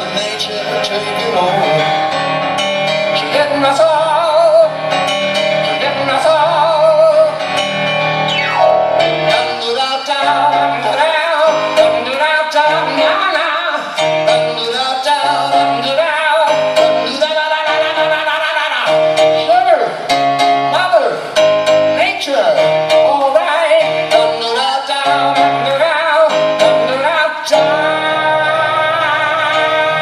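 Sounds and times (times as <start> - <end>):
live rock band: 0.0 - 30.0
person singing with vibrato: 0.0 - 30.0.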